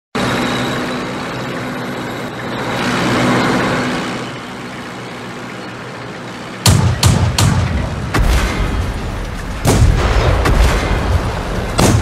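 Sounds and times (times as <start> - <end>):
tank engine rumble: 0.2 - 12.0.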